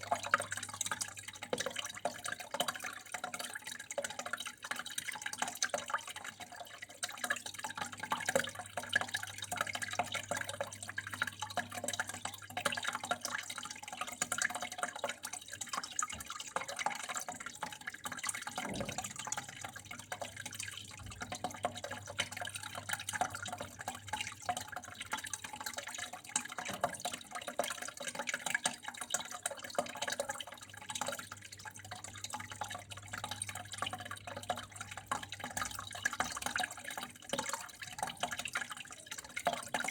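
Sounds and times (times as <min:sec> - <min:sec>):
water flowing and dripping: 0:00.0 - 0:39.9.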